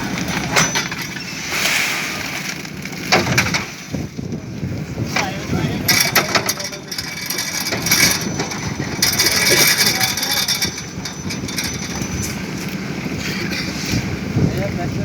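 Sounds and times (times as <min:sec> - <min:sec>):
construction clattering and scraping: 0:00.0 - 0:14.8.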